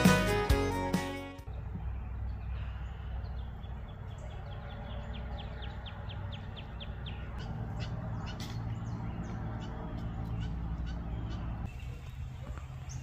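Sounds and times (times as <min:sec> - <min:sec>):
songbird singing: 0:01.4 - 0:13.0.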